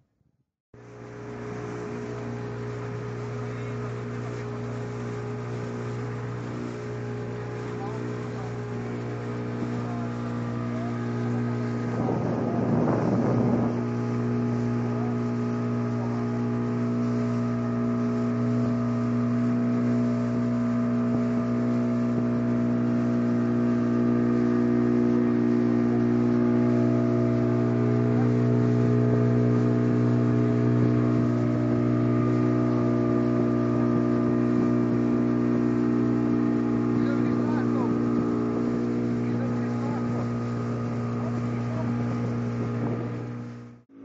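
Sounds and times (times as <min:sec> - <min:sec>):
speedboat engine running: 0:00.8 - 0:44.0.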